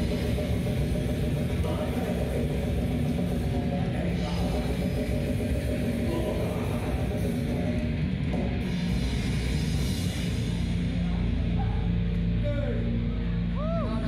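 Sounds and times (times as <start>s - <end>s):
distorted guitars: 0.0s - 14.0s
drums: 0.0s - 14.0s.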